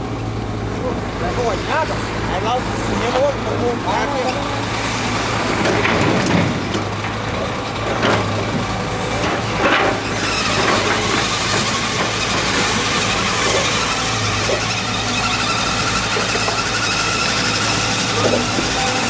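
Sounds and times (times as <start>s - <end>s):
machine engine humming: 0.0s - 19.0s.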